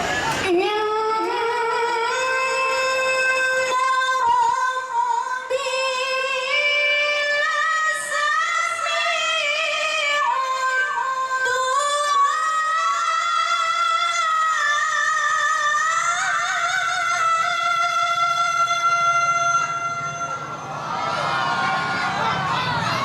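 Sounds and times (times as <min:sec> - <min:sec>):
woman reciting melodically: 0:00.1 - 0:20.4.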